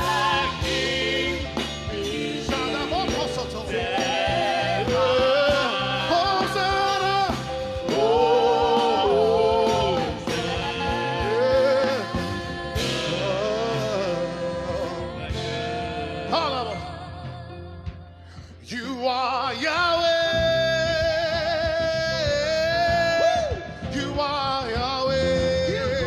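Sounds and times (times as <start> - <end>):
instrumental backing: 0.0 - 26.0.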